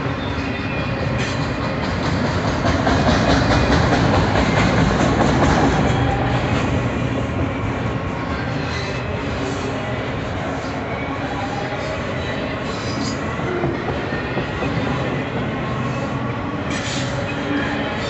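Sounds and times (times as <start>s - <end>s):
freight train rolling past: 0.0s - 18.0s.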